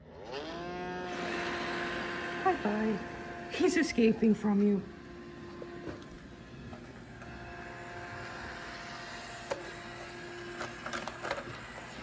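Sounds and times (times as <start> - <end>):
robot vacuum running: 0.0 - 12.0.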